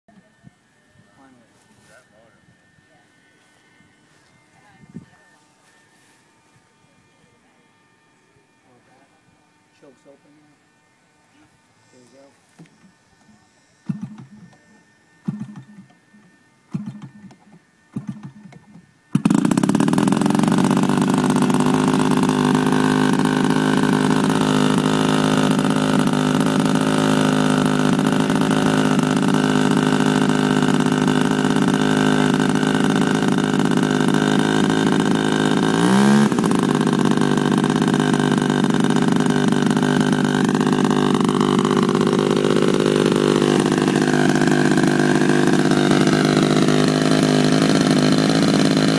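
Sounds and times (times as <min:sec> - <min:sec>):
model plane engine running: 0:00.1 - 0:48.9.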